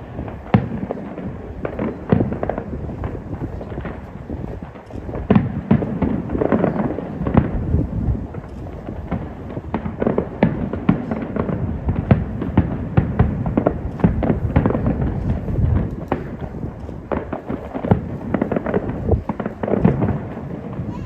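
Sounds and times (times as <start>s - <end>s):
fireworks shells bursting: 0.0s - 21.0s.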